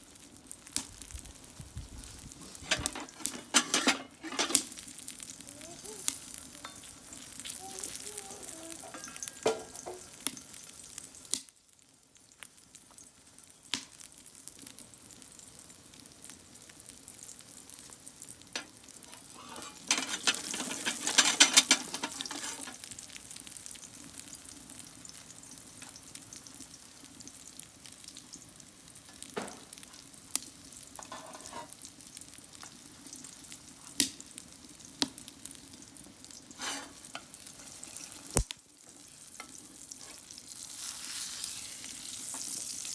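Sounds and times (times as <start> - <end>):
food sizzling in a frying pan: 0.0 - 42.9.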